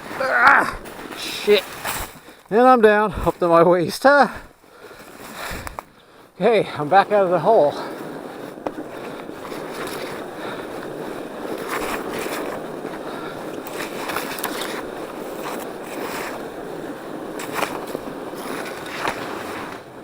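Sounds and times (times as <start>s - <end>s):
bike tires rolling over snow: 0.0s - 20.0s.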